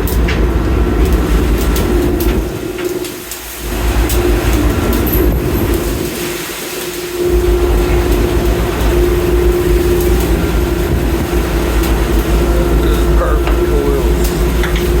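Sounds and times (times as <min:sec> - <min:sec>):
boat machinery rumbling and humming: 0:00.0 - 0:15.0.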